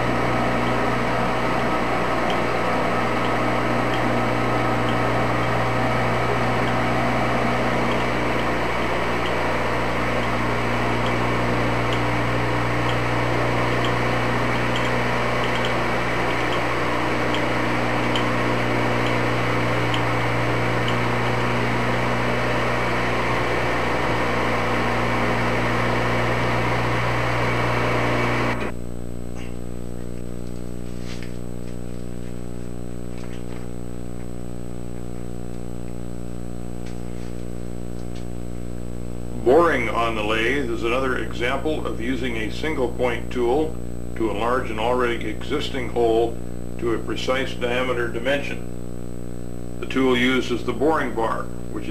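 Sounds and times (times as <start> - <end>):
lathe machine hum: 0.0 - 28.8, 32.7 - 51.9.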